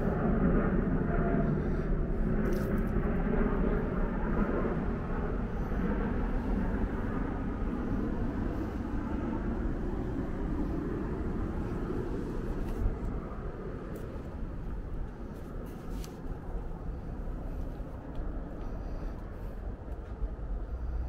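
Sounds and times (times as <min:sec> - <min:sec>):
road traffic rushing: 0:03.5 - 0:21.0.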